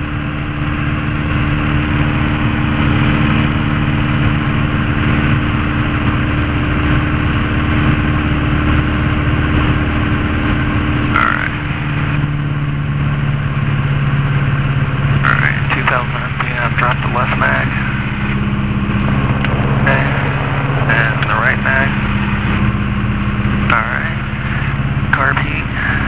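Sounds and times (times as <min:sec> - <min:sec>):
aircraft engine at full throttle: 0:00.0 - 0:26.0.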